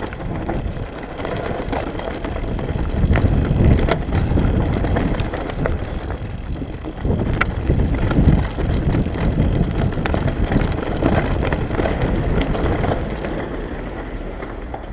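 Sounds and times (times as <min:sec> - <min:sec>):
bike clicks and rattles: 0:00.0 - 0:14.9
bike tyre noise on dirt: 0:00.0 - 0:14.9
wind buffeting microphone: 0:00.0 - 0:14.9.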